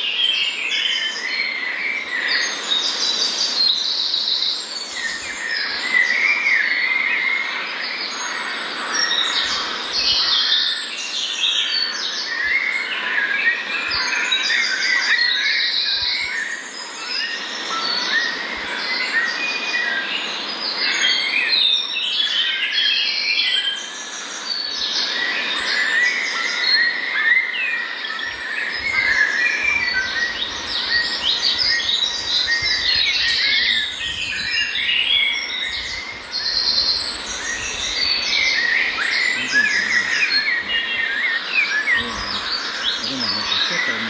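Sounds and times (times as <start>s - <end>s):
songbirds singing and chirping: 0.0s - 44.0s.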